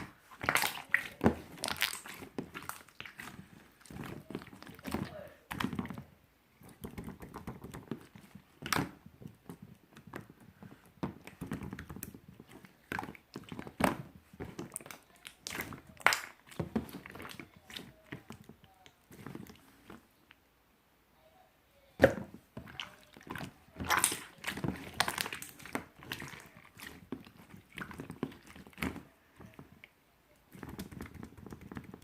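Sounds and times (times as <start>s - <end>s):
slime squelching by hand: 0.0s - 20.4s, 21.9s - 32.0s.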